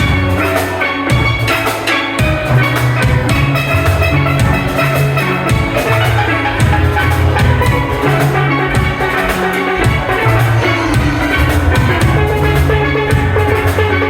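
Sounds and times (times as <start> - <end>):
bass pans: 0.0 - 14.0
drum kit beat: 0.0 - 14.0
steelpans playing melody: 0.0 - 14.0.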